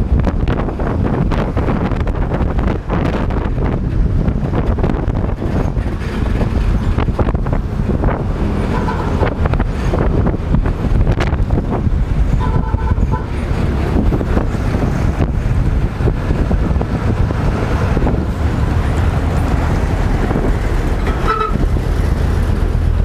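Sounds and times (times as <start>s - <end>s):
motorcycle engine rumble: 0.0s - 23.0s
road noise: 0.0s - 23.0s
wind buffeting microphone: 0.0s - 23.0s.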